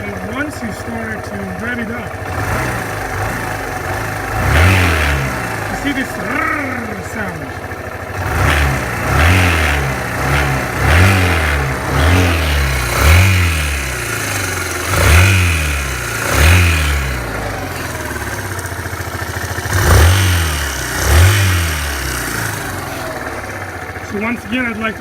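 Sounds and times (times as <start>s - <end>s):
motorcycle engine revving: 0.0s - 25.0s
odd engine noise: 0.0s - 25.0s.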